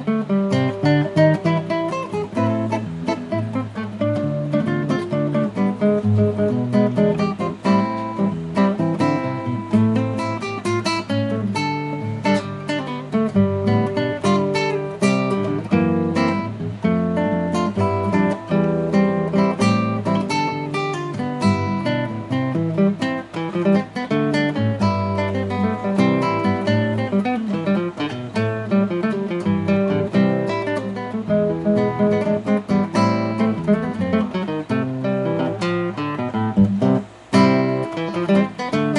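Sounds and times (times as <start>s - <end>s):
strummed and plucked acoustic guitars: 0.0s - 38.9s.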